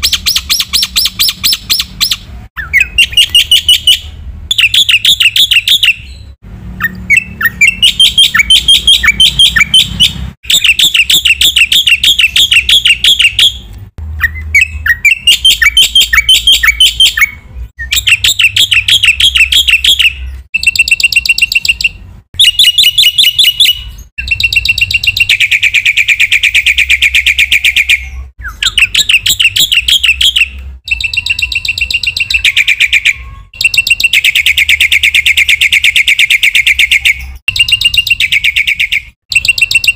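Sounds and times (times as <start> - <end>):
bird singing rattling chirps: 0.0 - 39.9.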